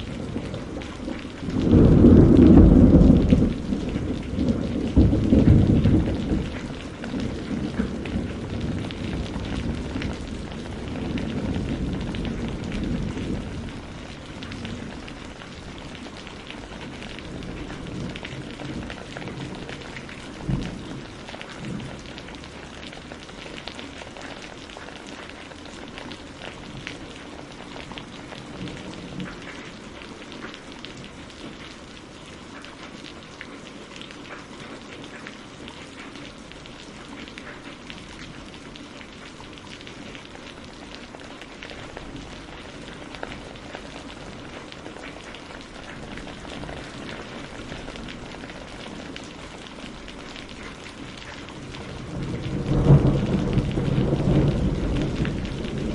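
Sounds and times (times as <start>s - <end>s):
rain on a greenhouse roof: 0.0s - 55.9s.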